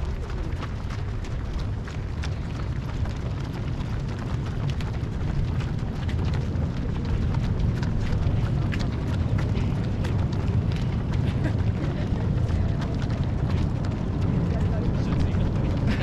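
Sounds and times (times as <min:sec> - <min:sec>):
runners' footsteps on road: 0:00.0 - 0:16.0
steady low rumble: 0:00.0 - 0:16.0.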